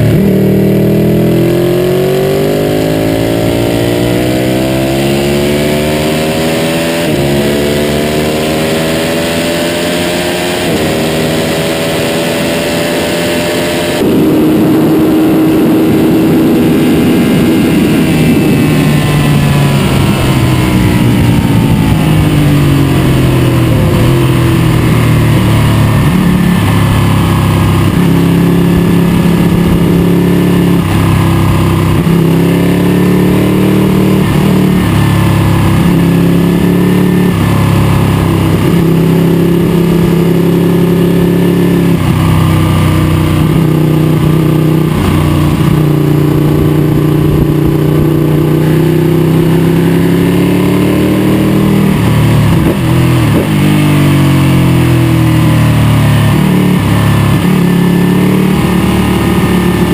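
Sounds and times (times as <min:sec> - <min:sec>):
motorcycle engine accelerating and shifting: 0:00.0 - 0:59.9.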